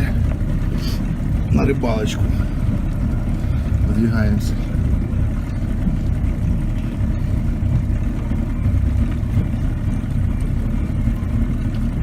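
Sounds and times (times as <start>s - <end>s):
motorboat engine rumble: 0.0s - 12.0s
wind buffeting microphone: 0.0s - 12.0s.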